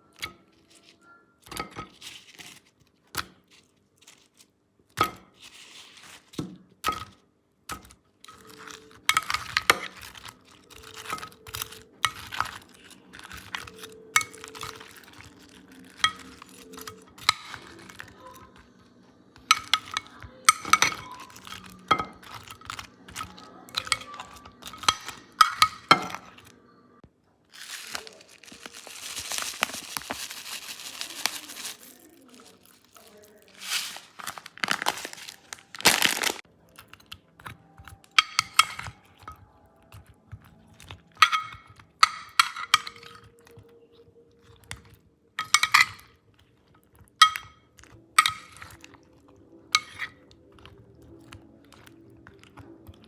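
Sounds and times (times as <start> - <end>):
utensils and dishes clinking: 0.0 - 2.6, 6.8 - 26.7, 27.6 - 53.0.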